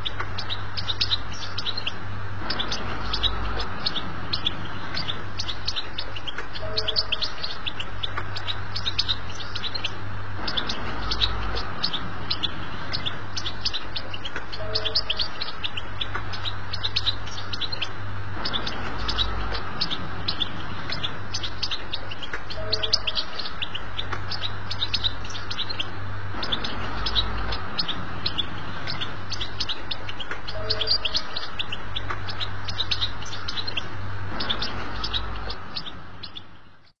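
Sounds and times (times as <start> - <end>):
finch twittering song: 0.0 - 37.0
low hum and hiss: 0.0 - 37.0.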